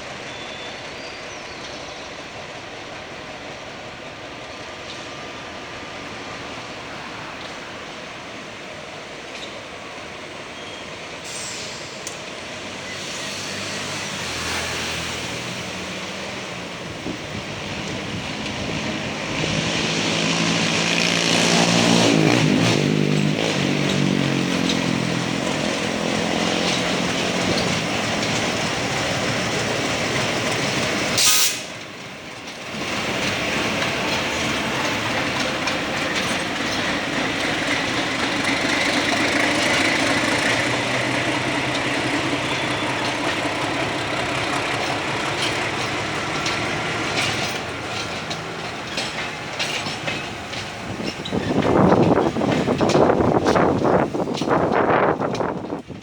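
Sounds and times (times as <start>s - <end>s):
diesel locomotive engine revving: 10.3s - 56.0s.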